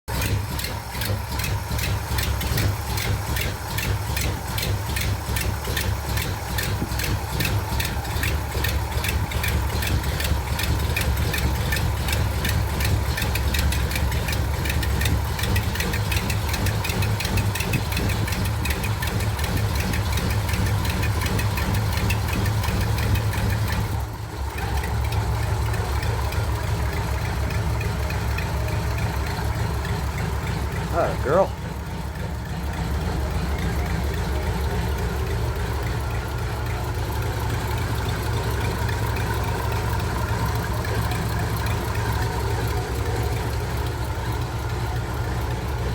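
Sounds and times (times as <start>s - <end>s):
car engine idling: 0.0s - 45.9s
quick even engine ticking: 0.1s - 45.9s.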